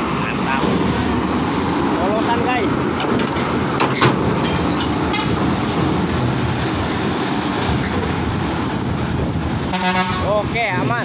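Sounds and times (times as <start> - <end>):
heavy truck engine rumbling: 0.0 - 11.0.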